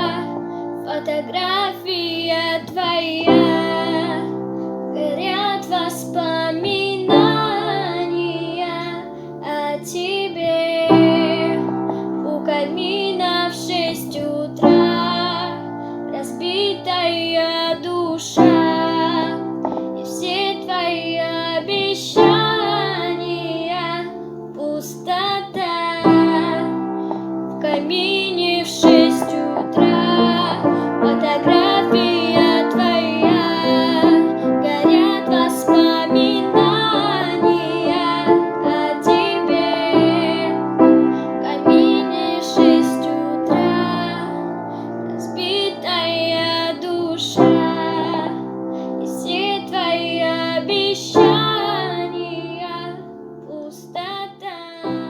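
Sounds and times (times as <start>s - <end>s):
woman singing pop song: 0.0s - 55.0s.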